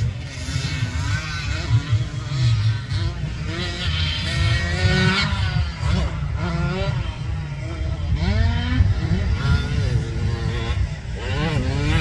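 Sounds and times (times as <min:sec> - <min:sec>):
mini motocross bikes revving: 0:00.0 - 0:12.0.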